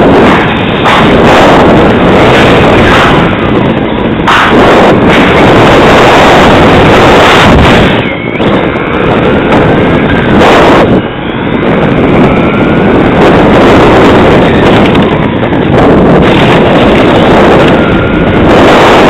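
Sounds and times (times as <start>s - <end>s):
electric motor whine: 0.0s - 19.0s
wind rushing on microphone: 0.0s - 19.0s.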